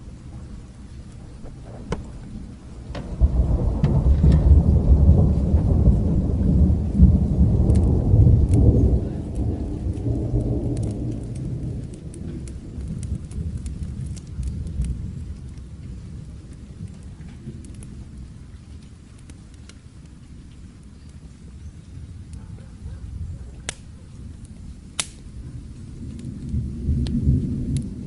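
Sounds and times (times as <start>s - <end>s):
fire crackling: 0.0s - 28.0s
rain falling: 0.0s - 28.0s
thunder rumbling: 0.0s - 28.0s.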